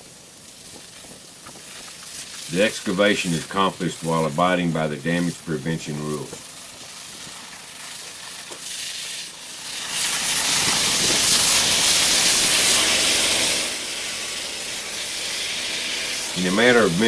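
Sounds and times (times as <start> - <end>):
high-pressure water jet hissing: 0.0 - 17.0.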